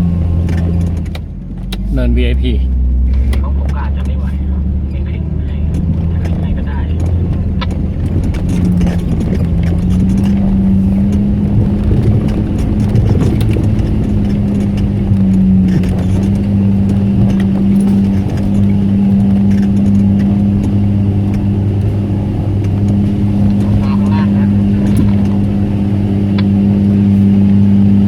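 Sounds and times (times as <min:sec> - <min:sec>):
off-road vehicle engine running: 0:00.0 - 0:28.0
vehicle knocks and clicks: 0:00.0 - 0:28.0.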